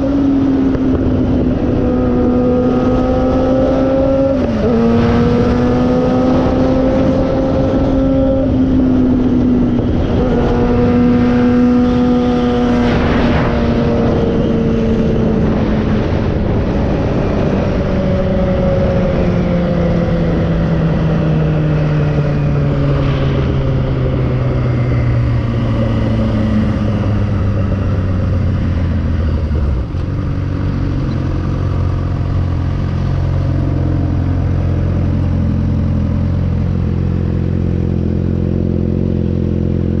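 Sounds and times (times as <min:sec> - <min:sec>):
motorcycle engine: 0:00.0 - 0:40.0
wind noise: 0:00.0 - 0:40.0.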